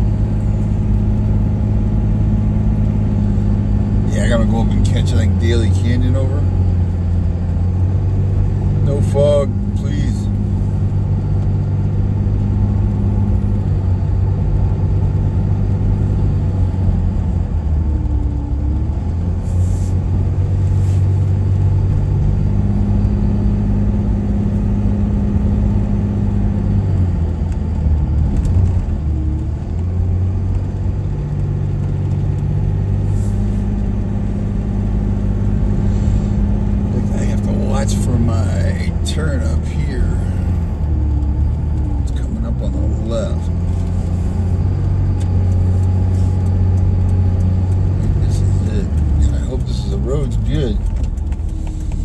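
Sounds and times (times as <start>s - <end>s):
road noise: 0.0s - 52.0s
vehicle engine drone: 0.0s - 52.0s.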